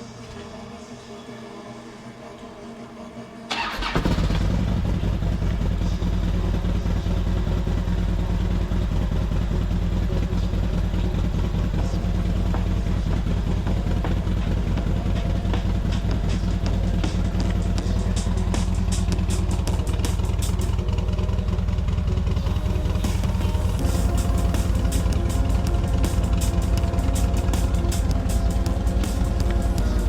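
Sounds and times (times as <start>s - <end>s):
motorcycle engine idling: 3.5s - 30.0s
motorcycle starter cranking: 3.5s - 30.0s.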